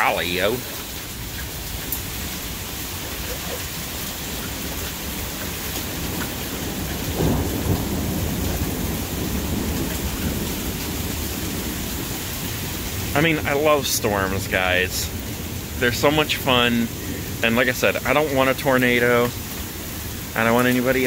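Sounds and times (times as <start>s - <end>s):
steady rain falling: 0.0s - 21.0s
thunder rumbling: 0.0s - 21.0s.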